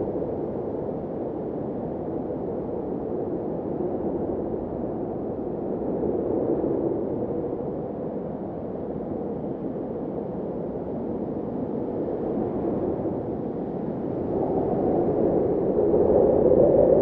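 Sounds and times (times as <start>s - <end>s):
blizzard wind blowing: 0.0s - 17.0s.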